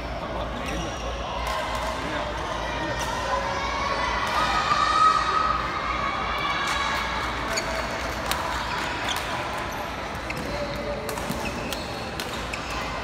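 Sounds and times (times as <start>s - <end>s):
din of voices in a hall: 0.0s - 13.0s.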